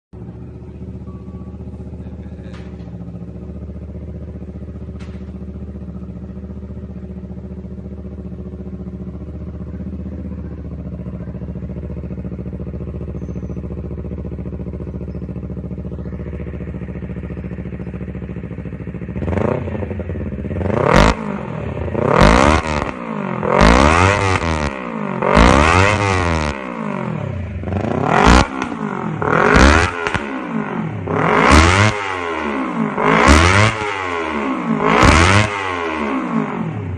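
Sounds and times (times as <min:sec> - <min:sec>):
motorcycle engine idling and revving: 0:00.2 - 0:36.9.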